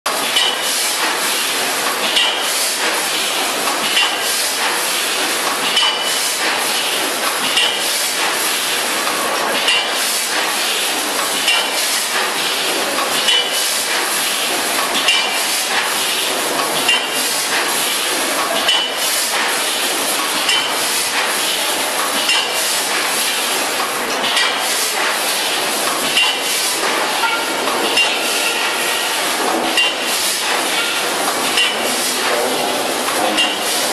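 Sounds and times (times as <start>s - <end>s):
packing machine clatter: 0.1s - 33.9s.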